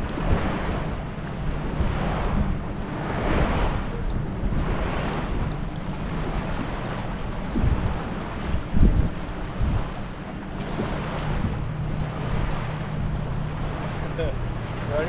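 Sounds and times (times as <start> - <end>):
steady low rumble: 0.0 - 15.0
water splashing against hull: 0.0 - 15.0
wind buffeting microphone: 0.0 - 15.0.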